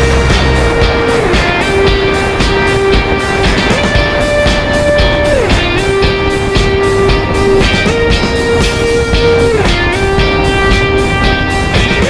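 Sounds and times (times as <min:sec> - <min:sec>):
music with a steady beat: 0:00.0 - 0:12.0.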